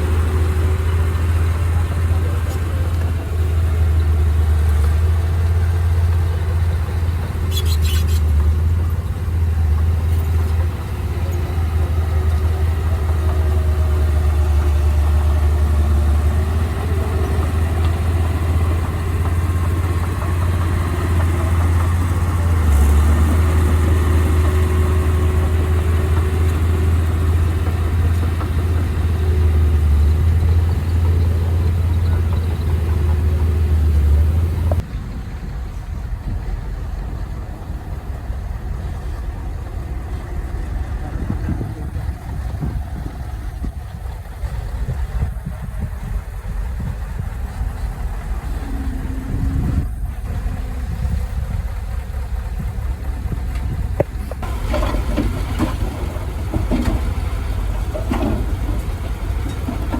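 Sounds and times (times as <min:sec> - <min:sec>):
heavy machinery engine rumbling: 0:00.0 - 0:59.9.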